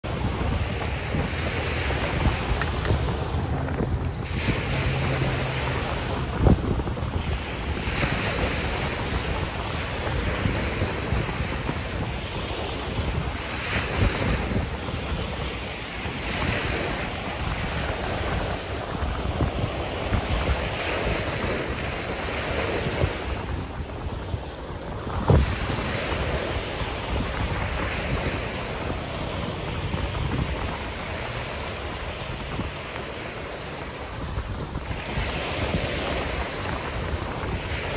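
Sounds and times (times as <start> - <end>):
ocean surf washing onto beach: 0.0 - 37.9
wind buffeting microphone: 0.0 - 37.9.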